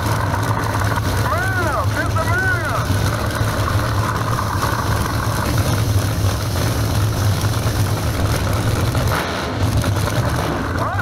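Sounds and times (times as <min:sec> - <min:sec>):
drag racing engines idling: 0:00.0 - 0:11.0
nitrous purge hissing: 0:00.0 - 0:11.0.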